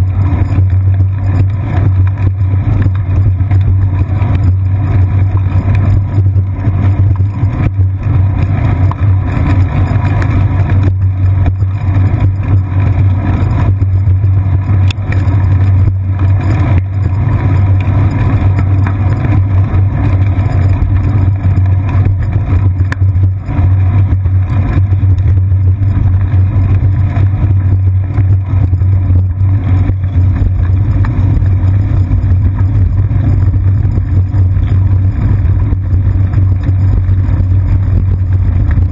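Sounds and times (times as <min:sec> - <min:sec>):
bicycle road vibration: 0:00.0 - 0:38.9
wind rumble: 0:00.0 - 0:38.9.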